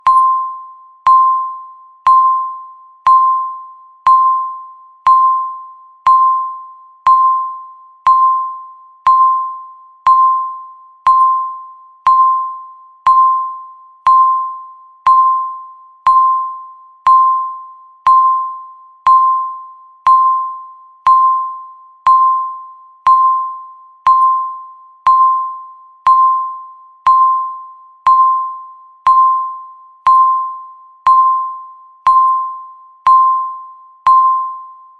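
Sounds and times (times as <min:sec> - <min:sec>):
countdown timer beeping: 0:00.0 - 0:34.8.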